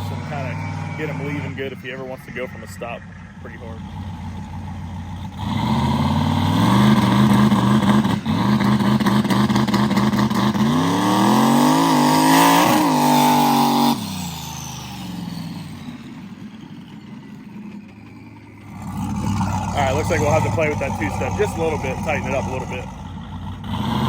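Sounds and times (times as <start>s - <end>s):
turbocharged truck engine revving: 0.0s - 24.0s.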